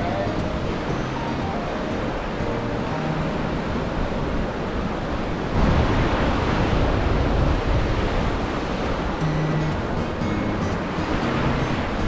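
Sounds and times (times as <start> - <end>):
ocean surf on beach: 0.0 - 12.0
wind buffeting microphone: 0.0 - 12.0.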